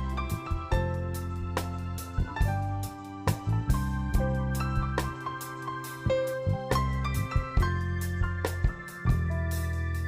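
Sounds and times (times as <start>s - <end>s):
sustained low bass: 0.0s - 5.3s, 6.1s - 10.0s
keyboard notes: 0.0s - 10.0s.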